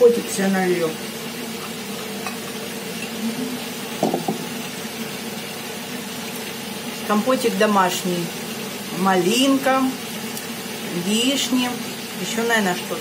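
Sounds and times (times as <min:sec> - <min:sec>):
potatoes sizzling in a pan: 0:00.0 - 0:13.0
range hood humming: 0:00.0 - 0:13.0.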